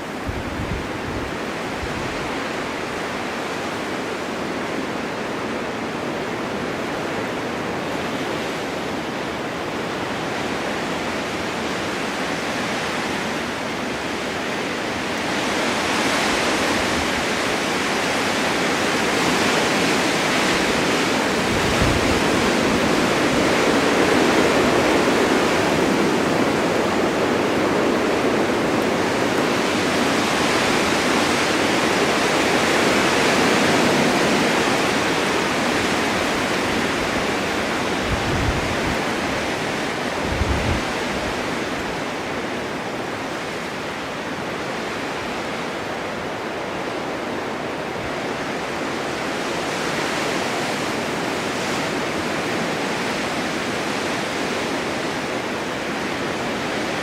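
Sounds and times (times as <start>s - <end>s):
blizzard wind rushing: 0.0s - 57.0s.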